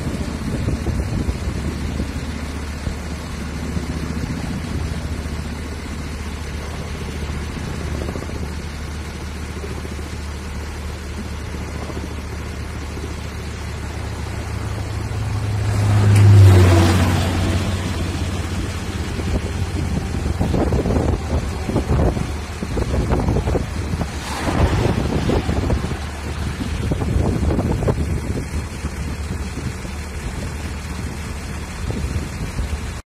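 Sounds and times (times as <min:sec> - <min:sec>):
helicopter rotor rumble: 0:00.0 - 0:33.0.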